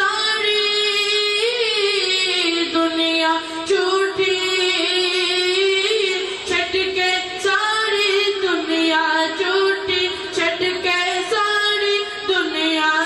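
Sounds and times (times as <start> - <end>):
high-pitched voice singing devotional song: 0.0 - 13.0.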